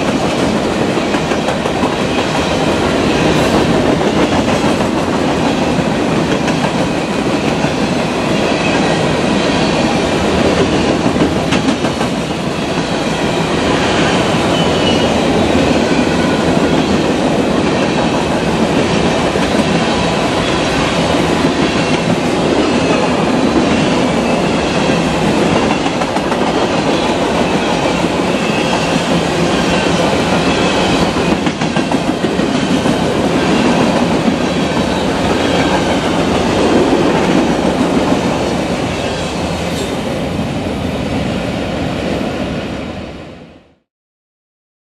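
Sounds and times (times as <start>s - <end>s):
freight train wheels on rails: 0.0s - 43.5s.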